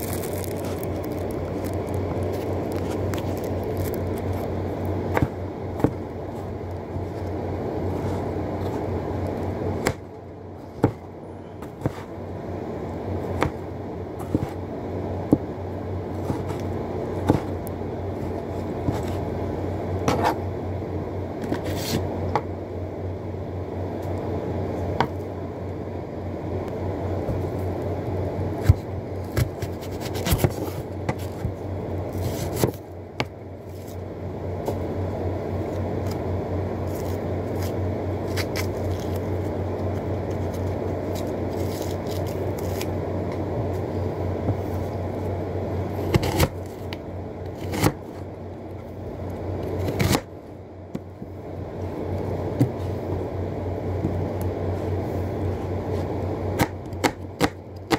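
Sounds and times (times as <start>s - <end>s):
onion peeled by hand: 0.0s - 20.5s, 21.4s - 22.5s, 26.7s - 51.2s, 51.8s - 57.9s
steady low hum: 0.0s - 57.9s.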